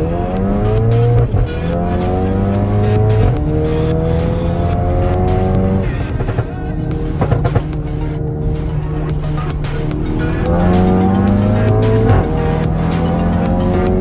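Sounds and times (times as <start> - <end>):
car engine accelerating hard: 0.0 - 14.0
rock music: 0.0 - 14.0.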